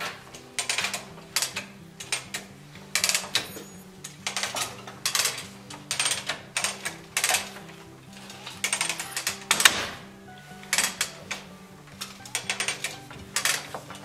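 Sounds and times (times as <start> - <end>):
hand-cranked machine gears clattering: 0.0 - 10.0, 10.6 - 14.0.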